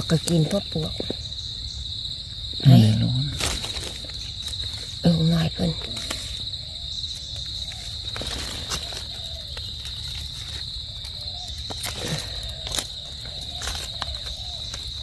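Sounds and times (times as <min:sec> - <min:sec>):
insects trilling: 0:00.0 - 0:15.0
dry leaves crackling: 0:03.0 - 0:15.0.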